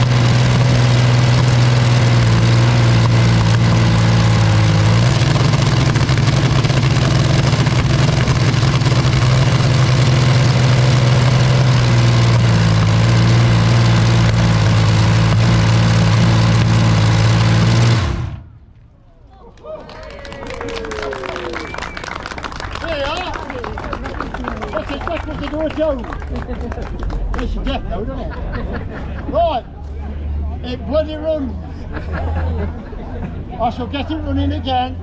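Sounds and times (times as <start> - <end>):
loud engine running: 0.0 - 18.7, 21.2 - 35.0.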